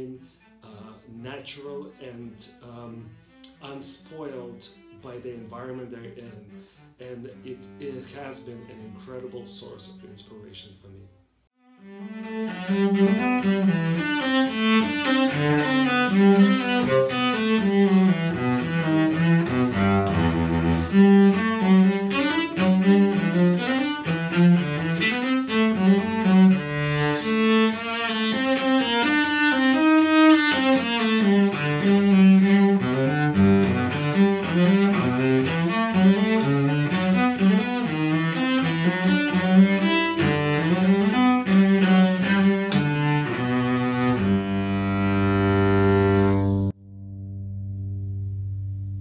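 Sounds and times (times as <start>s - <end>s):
bowed cello playing fast notes: 0.0s - 10.0s, 11.6s - 49.0s.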